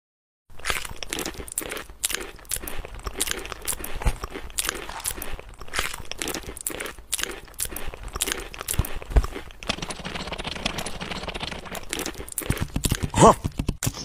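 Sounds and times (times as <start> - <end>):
eating crunching and clicking: 0.5 - 14.0.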